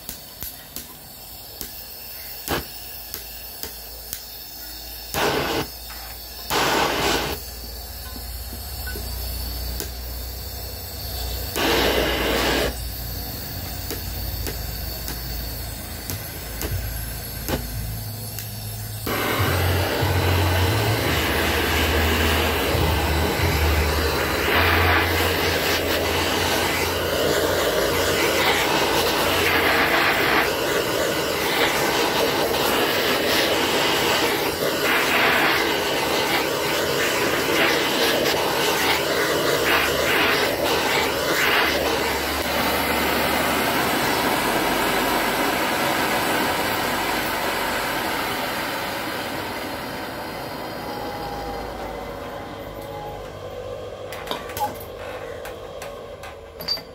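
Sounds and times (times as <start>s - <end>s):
gas torch roaring: 0.0s - 56.9s.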